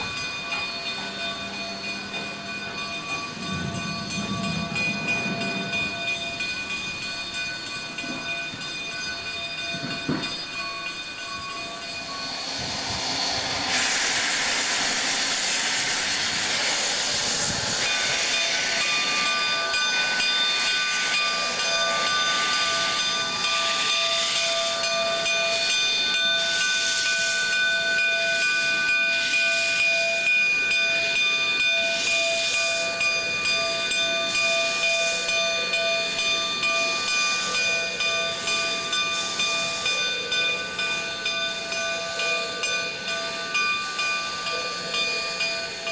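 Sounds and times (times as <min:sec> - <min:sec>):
high ringing tones: 0:00.0 - 0:13.7, 0:17.4 - 0:45.9
steam locomotive hissing: 0:00.0 - 0:45.9.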